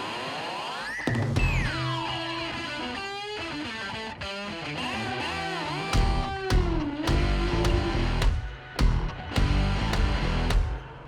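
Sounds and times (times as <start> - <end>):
electric guitar music: 0.0 - 11.0.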